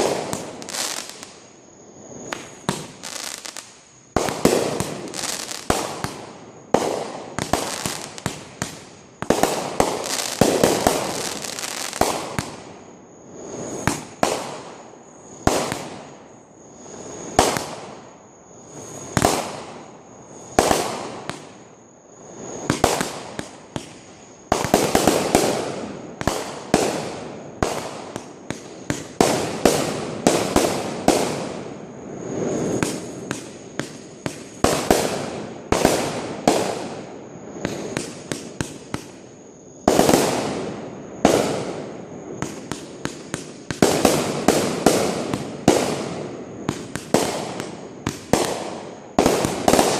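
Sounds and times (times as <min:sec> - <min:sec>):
fireworks bangs: 0:00.0 - 0:01.5, 0:02.2 - 0:12.8, 0:13.6 - 0:16.2, 0:20.5 - 0:21.6, 0:22.4 - 0:39.2, 0:39.8 - 0:49.9
fireworks crackling: 0:00.0 - 0:49.9.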